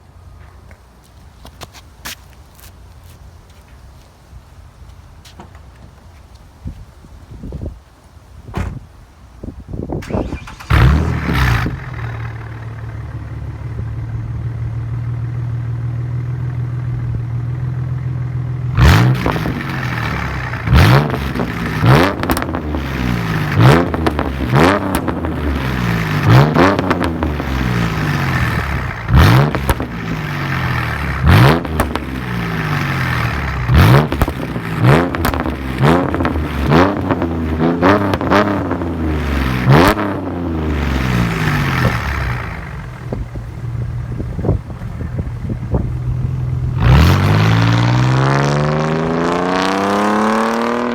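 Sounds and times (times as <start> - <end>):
car engine revving and idling: 10.0 - 50.9.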